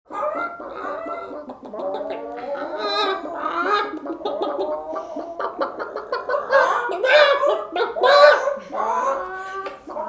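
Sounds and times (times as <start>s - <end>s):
chickens clucking: 0.1s - 10.0s.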